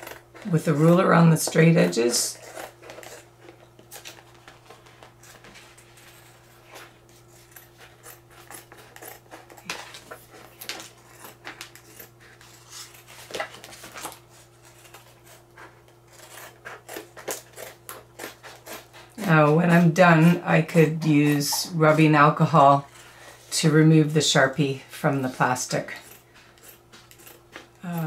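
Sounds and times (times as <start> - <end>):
scissors cutting plastic: 0.0 - 6.2, 7.0 - 23.1, 25.4 - 28.0.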